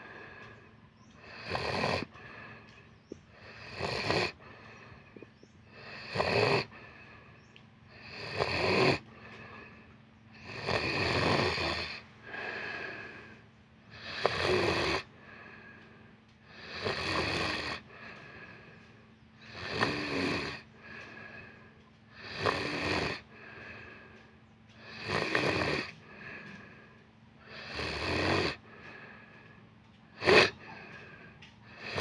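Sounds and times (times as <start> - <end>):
person snoring: 1.2 - 32.0.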